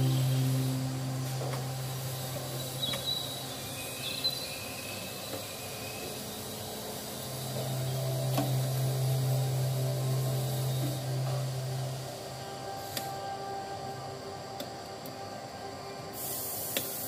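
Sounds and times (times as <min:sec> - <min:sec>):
low held tone: 0:00.0 - 0:05.0, 0:07.1 - 0:16.6
background music with sustained notes: 0:00.0 - 0:17.0.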